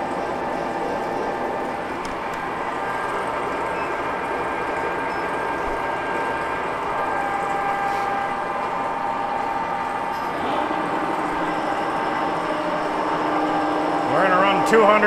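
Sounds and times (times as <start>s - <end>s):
high whining tones: 0.0s - 15.0s
milling machine humming: 0.0s - 15.0s.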